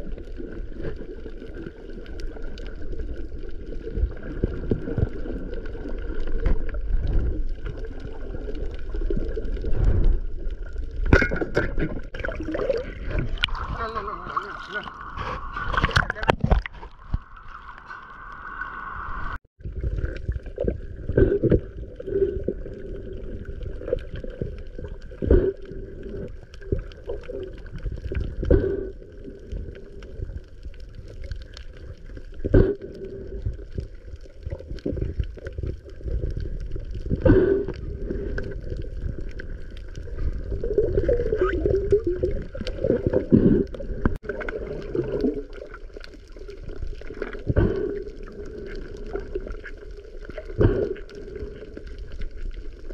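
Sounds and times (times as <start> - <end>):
water gurgling and sloshing: 0.0 - 52.9.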